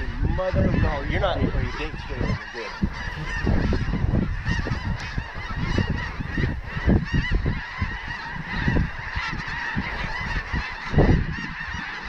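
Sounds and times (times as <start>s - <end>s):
geese honking: 0.0s - 12.0s
wind gusts on microphone: 0.0s - 12.0s.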